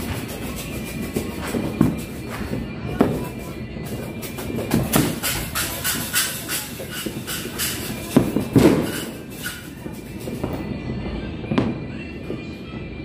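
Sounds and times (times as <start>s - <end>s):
distant firework pops: 0.0s - 10.8s
firework shells bursting: 0.0s - 10.8s.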